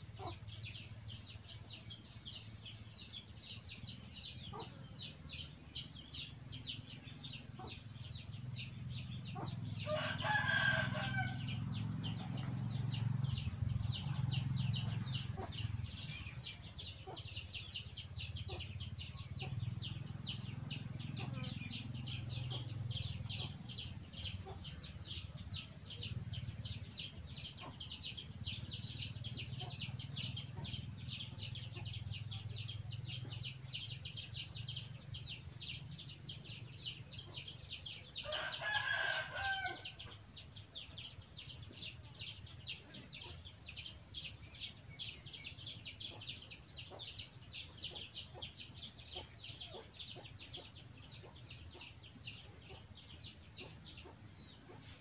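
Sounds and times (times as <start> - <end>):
insects buzzing: 0.0 - 55.0.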